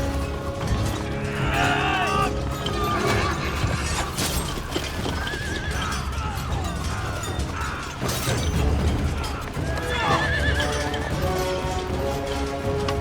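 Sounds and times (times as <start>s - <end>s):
horses whinnying: 0.6s - 12.4s.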